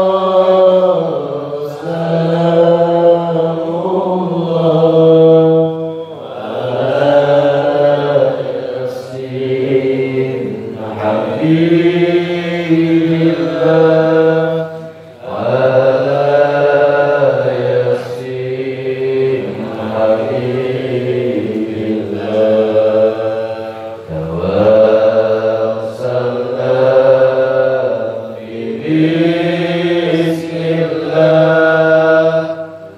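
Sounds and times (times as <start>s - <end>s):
devotional chanting: 0.0s - 32.9s.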